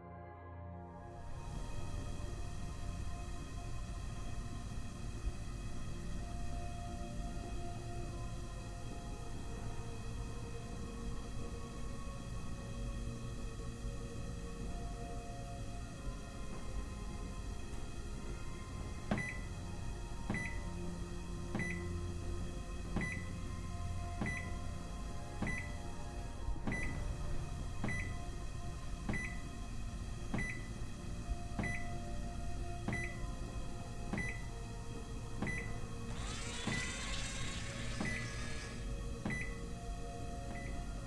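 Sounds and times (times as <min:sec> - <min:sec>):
low electronic hum: 0:00.0 - 0:41.0.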